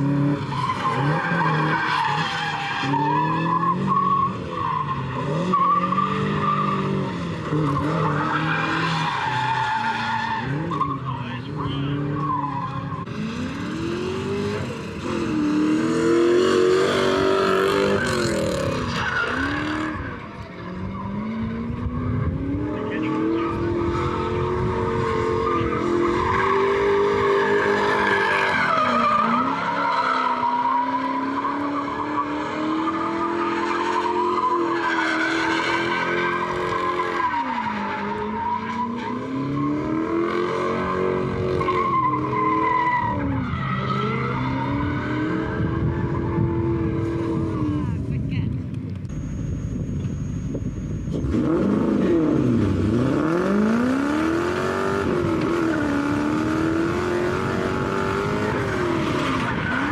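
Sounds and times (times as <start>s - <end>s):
car engine revving: 0.0s - 48.2s, 49.0s - 59.9s.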